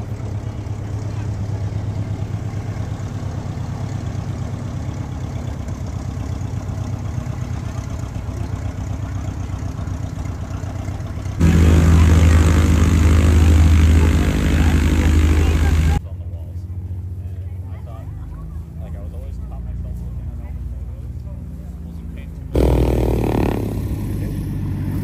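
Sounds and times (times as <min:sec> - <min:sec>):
light aircraft engine running: 0:00.0 - 0:25.0.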